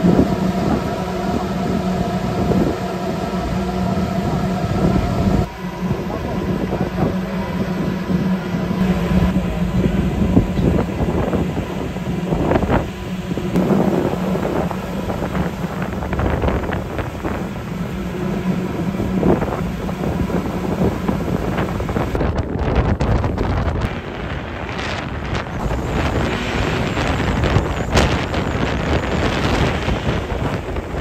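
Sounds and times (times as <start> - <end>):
boat engine drone: 0.0 - 31.0
hum: 0.0 - 31.0
wind buffeting microphone: 0.0 - 31.0.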